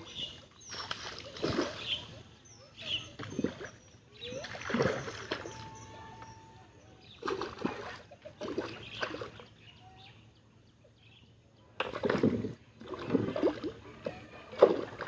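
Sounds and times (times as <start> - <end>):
water splashing and sloshing: 0.0 - 6.4, 7.1 - 9.6, 11.7 - 15.0.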